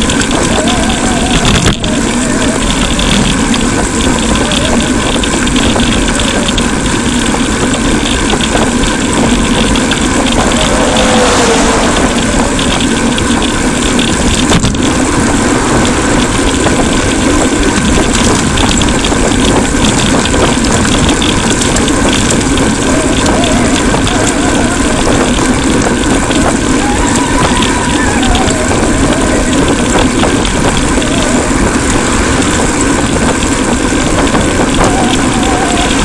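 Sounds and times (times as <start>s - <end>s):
road noise: 0.0s - 36.0s
wind rush on microphone: 0.0s - 36.0s.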